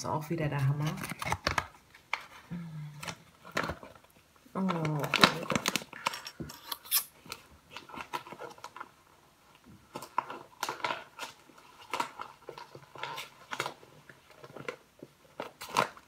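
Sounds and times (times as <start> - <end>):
packaging rustling: 0.6 - 16.0.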